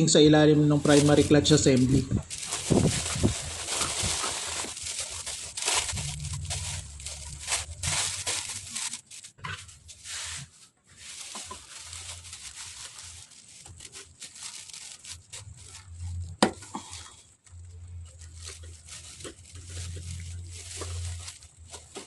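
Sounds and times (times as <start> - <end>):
rustling and scraping handling: 0.5 - 22.0.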